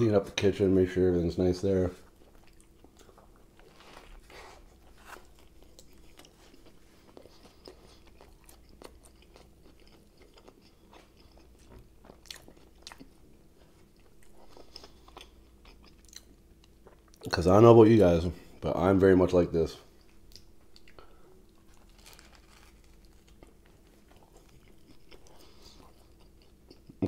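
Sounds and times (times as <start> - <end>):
person chewing sandwich: 2.0 - 17.3, 19.9 - 27.0.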